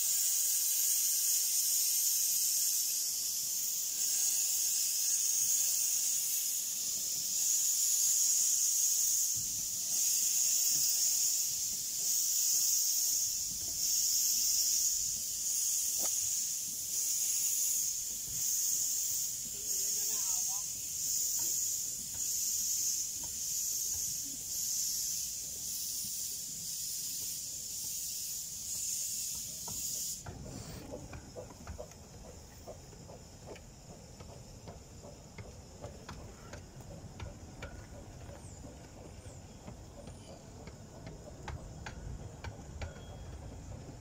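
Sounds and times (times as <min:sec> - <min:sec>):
steam locomotive hissing: 0:00.0 - 0:44.0
wheels clicking over rail joints: 0:00.6 - 0:44.0.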